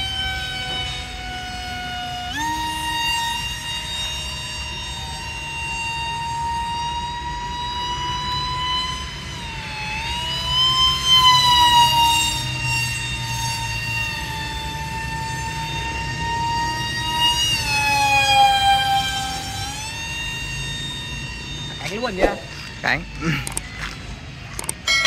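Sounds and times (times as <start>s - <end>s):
model jet motor whine: 0.0s - 25.0s.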